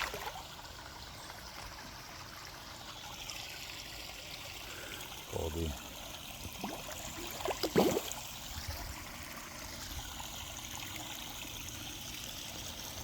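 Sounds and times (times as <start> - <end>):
water trickling into a pond: 0.0 - 13.0.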